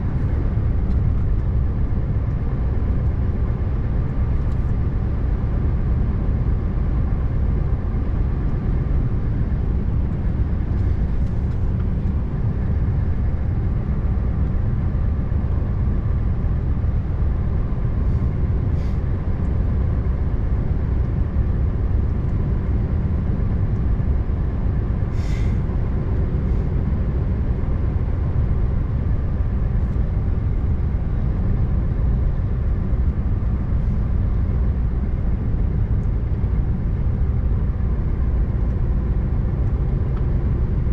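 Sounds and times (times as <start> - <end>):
road noise: 0.0 - 40.9
truck engine rumble: 0.0 - 40.9.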